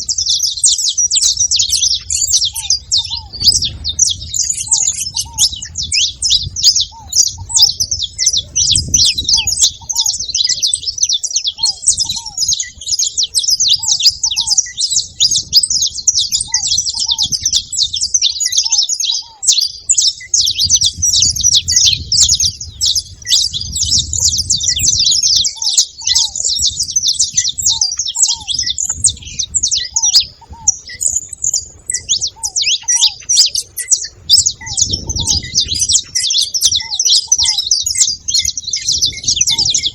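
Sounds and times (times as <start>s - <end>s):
finch chirping rapidly: 0.0s - 39.9s.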